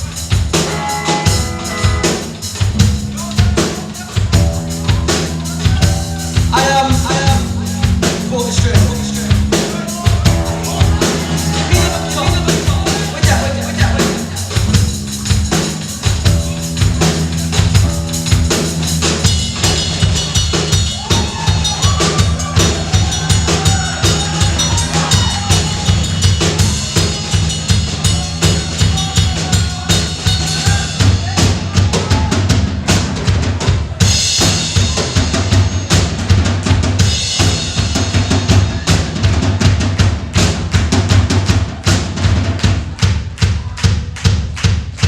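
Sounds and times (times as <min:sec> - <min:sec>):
drum kit beat: 0:00.0 - 0:45.0
live rock band playing: 0:00.0 - 0:45.0.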